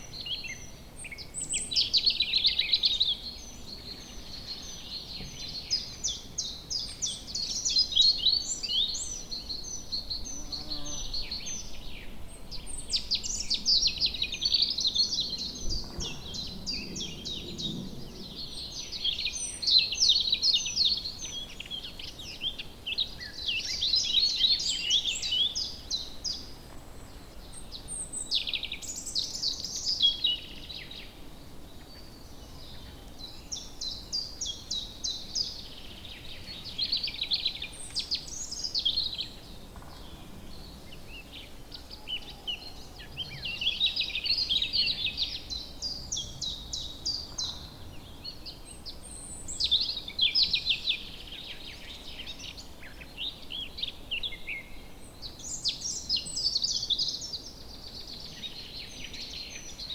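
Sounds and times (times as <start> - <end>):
faint background hiss: 0.0 - 59.9
songbirds singing and chirping: 0.0 - 59.9.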